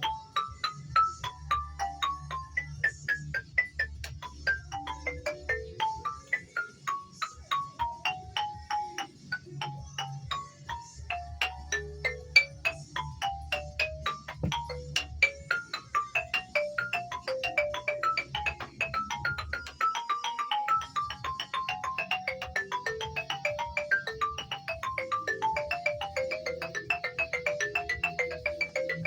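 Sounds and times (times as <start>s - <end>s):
mallet percussion melody: 0.0s - 29.0s.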